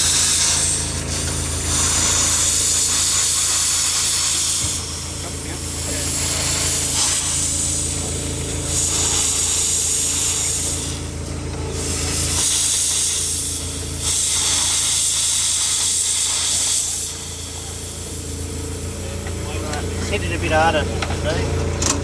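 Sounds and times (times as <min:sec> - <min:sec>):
steam hissing blasts: 0:00.0 - 0:21.3
steady low hum: 0:00.0 - 0:22.0.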